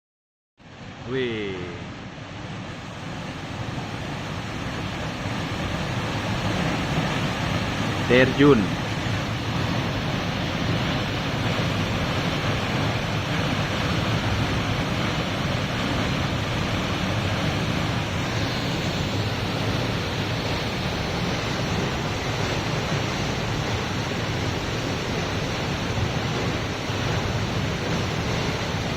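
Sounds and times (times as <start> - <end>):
waterfall roaring: 0.8 - 28.9.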